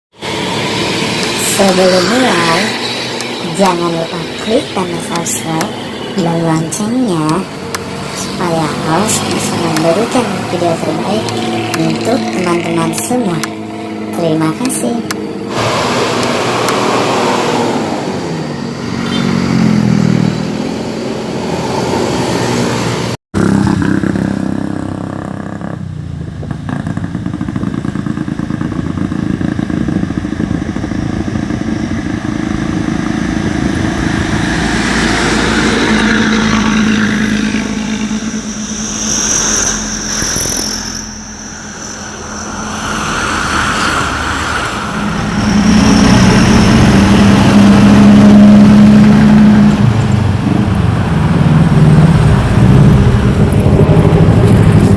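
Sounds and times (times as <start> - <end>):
bus diesel engine running: 0.2 - 54.9.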